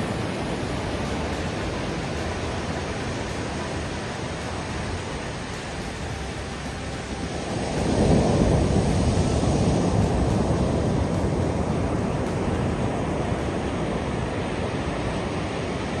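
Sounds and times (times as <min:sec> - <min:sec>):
ocean waves breaking on beach: 0:00.0 - 0:16.0.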